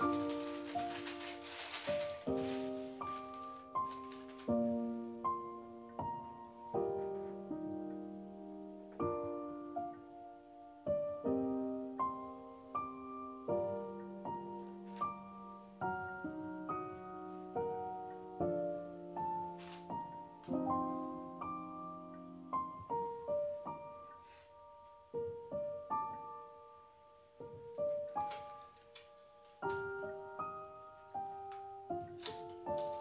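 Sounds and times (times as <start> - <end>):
slow gentle piano music: 0.0 - 33.0.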